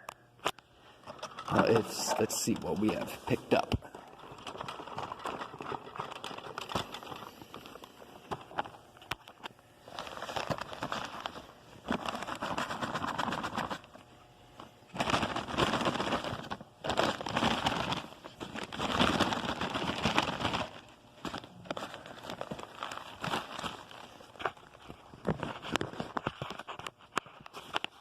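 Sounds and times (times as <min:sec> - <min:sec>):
paper bag rustling and crinkling: 0:01.0 - 0:13.9, 0:14.9 - 0:28.0.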